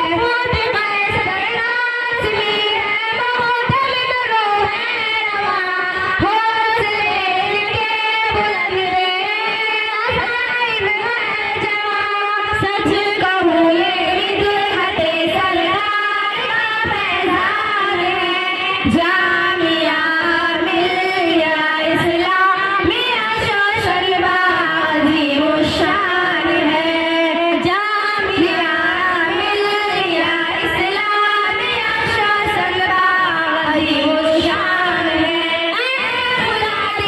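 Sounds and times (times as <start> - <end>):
girls singing together: 0.0 - 37.0.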